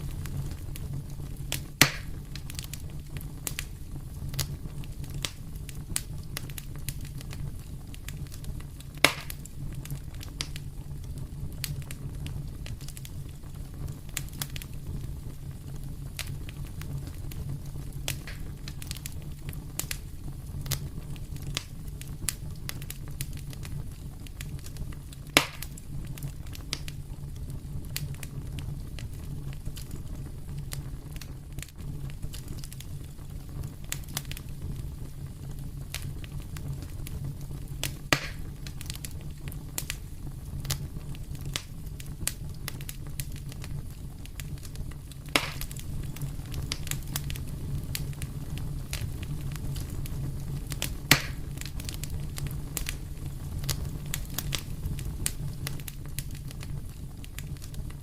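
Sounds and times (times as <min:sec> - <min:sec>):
fire crackling in a fireplace: 0:00.0 - 0:58.0
loud fire pops: 0:00.0 - 0:58.0.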